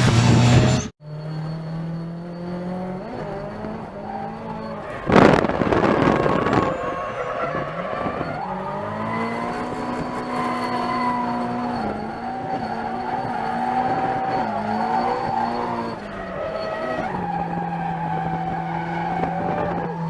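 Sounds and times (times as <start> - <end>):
car engine at high revs: 0.0 - 20.0
tyres squealing: 3.0 - 20.0.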